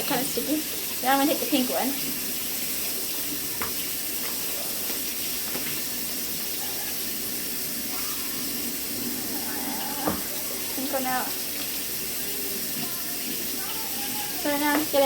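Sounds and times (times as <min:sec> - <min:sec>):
water running from a tap: 0:00.0 - 0:15.0.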